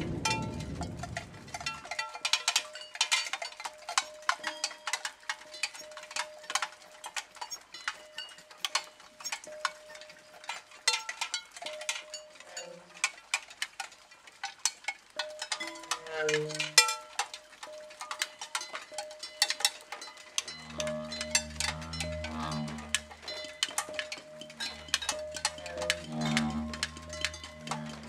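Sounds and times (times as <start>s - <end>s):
irregular metallic clicks and ticks: 0.0s - 28.0s.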